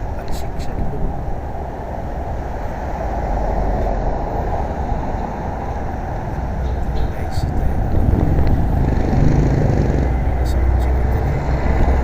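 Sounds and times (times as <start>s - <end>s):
road and traffic noise: 0.0s - 12.0s
wind on microphone: 0.0s - 12.0s.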